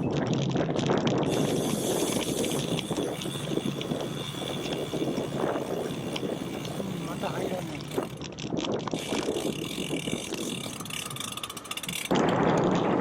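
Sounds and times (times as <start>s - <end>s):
bicycle road noise: 0.0s - 13.0s
rushing wind: 0.0s - 13.0s.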